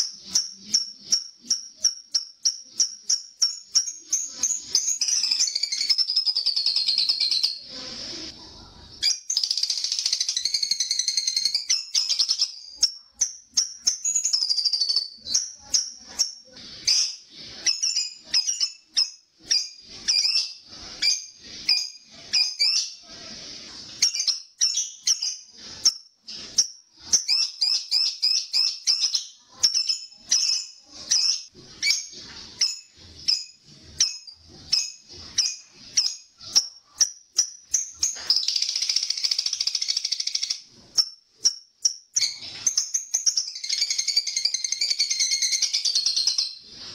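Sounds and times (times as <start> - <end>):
lovebird chattering: 0.0 - 7.7, 9.0 - 23.1, 23.9 - 46.6.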